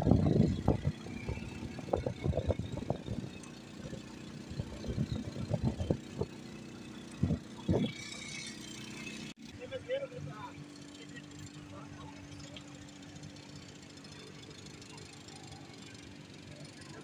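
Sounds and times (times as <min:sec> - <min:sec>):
ride car engine humming: 0:00.0 - 0:17.0.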